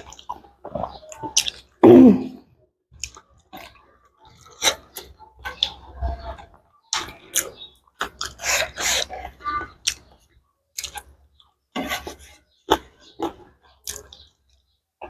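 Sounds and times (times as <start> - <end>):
person chewing: 0.0 - 2.4, 3.0 - 14.3.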